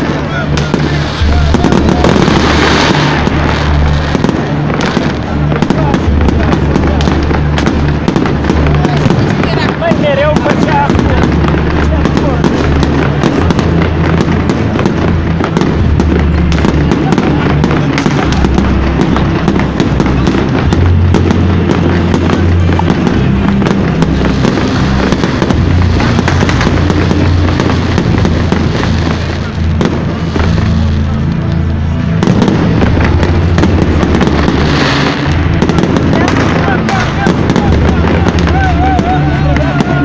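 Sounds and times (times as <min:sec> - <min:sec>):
crowd voices: 0:00.0 - 0:40.0
fireworks bursting and crackling: 0:00.0 - 0:40.0
loud music: 0:00.0 - 0:40.0.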